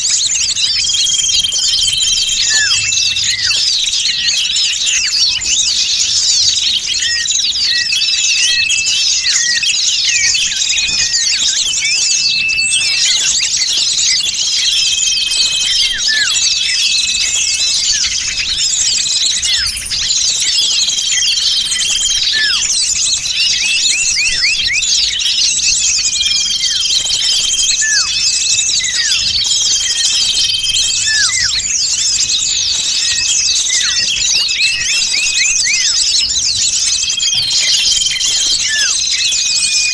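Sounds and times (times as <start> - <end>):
bird whistles: 0.0 - 39.9
songbirds chirping and trilling: 0.0 - 39.9.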